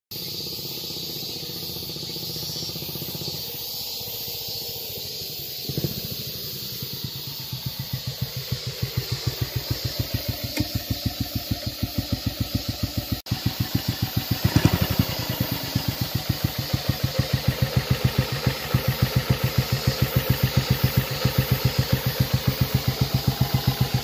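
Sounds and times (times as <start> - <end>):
motorcycle engine thumping: 0.2 - 24.0.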